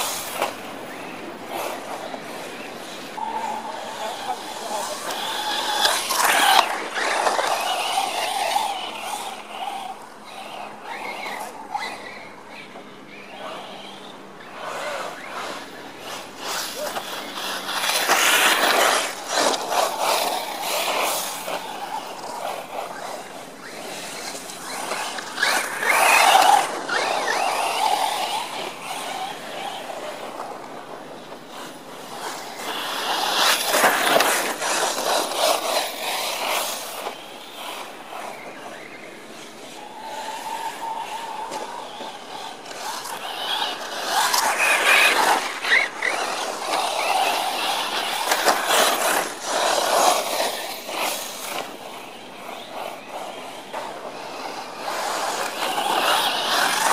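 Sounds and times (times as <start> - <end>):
rc car motor whine: 0.0 - 56.9
tyres scrabbling on dirt: 0.0 - 56.9.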